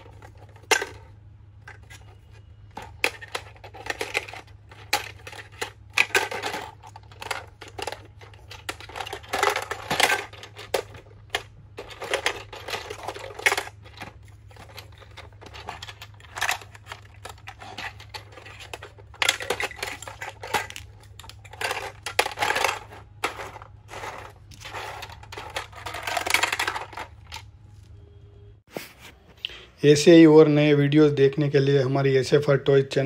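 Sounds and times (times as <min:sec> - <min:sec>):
plastic blocks clattering in toy: 0:00.0 - 0:27.5.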